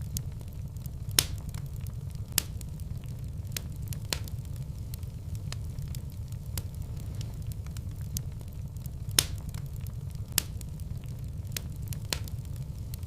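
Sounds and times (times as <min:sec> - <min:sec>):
sharp pops of fire: 0:00.0 - 0:13.0
wood fire crackling: 0:00.0 - 0:13.0.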